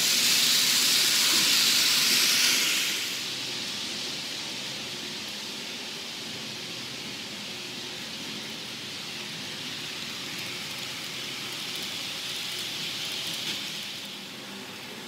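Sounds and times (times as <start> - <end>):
model train wheels whirring on rail: 0.0 - 15.0.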